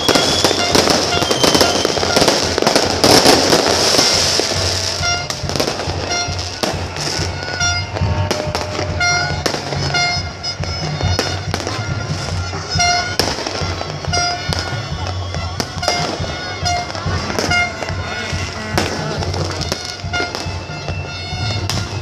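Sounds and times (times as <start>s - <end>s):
fireworks bangs and crackles: 0.0s - 22.0s
short high tooting notes: 0.0s - 22.0s.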